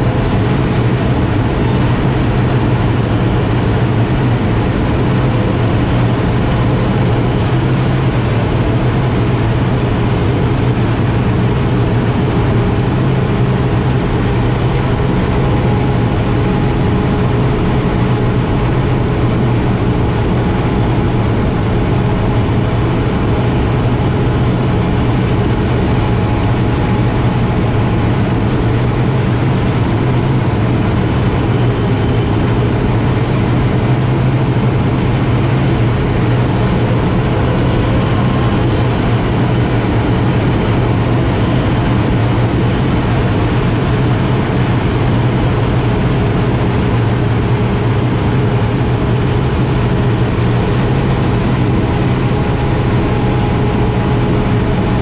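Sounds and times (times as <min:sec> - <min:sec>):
propeller plane engine hum: 0:00.0 - 0:55.0
steady engine whine: 0:00.0 - 0:55.0.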